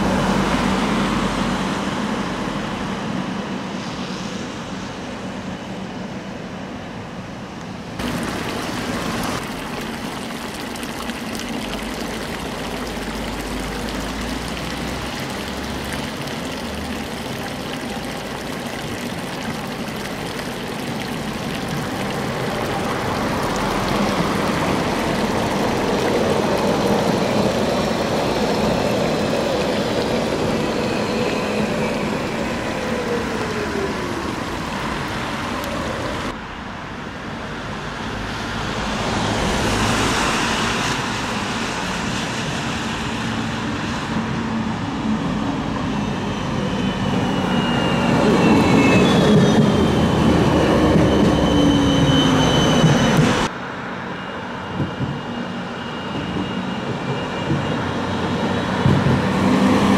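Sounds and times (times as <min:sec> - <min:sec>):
road traffic: 0:00.0 - 0:59.9
tram running on rails: 0:00.0 - 0:59.9.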